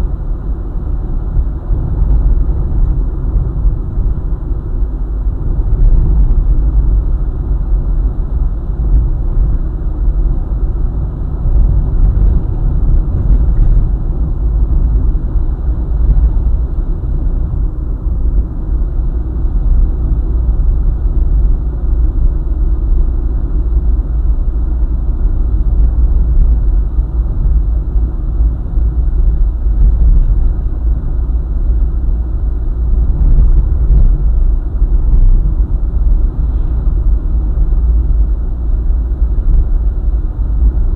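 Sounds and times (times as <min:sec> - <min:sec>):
car road rumble: 0:00.0 - 0:40.9.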